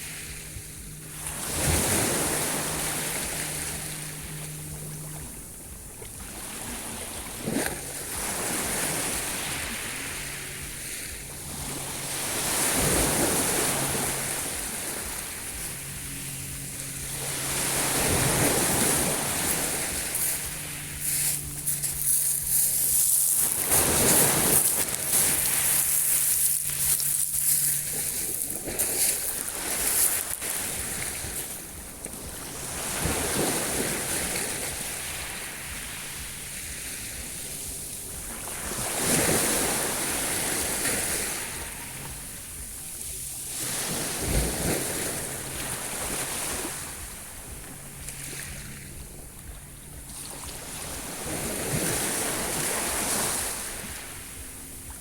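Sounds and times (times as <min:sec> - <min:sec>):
faint low hum: 0:00.0 - 0:52.8
sea waves breaking: 0:00.0 - 0:55.0.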